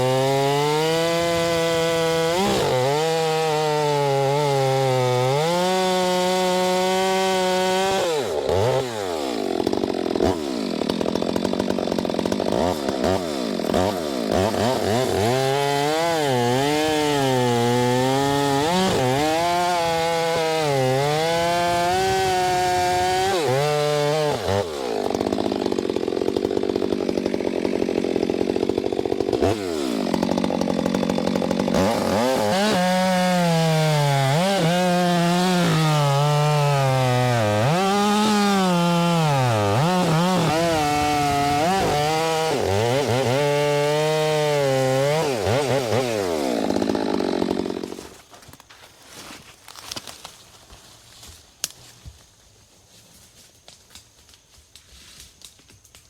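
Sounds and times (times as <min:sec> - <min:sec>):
chainsaw cutting log: 0:00.0 - 0:50.3.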